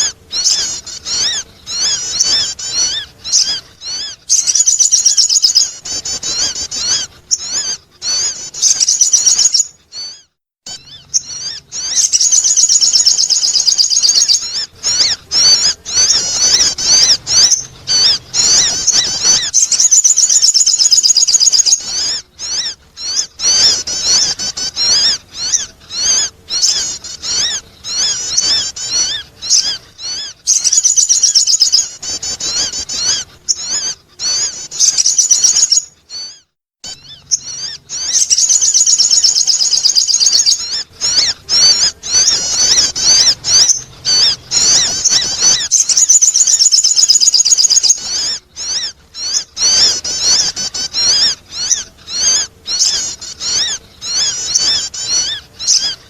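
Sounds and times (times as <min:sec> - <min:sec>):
bird chirping high-pitched: 0:00.0 - 0:56.0.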